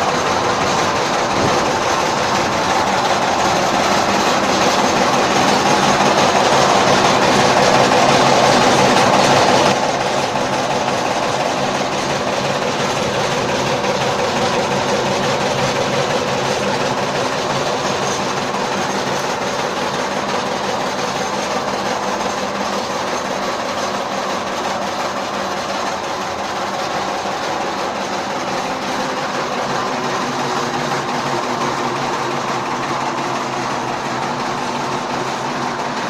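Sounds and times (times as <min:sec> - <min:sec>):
chaff cutter running: 0:00.0 - 0:36.0.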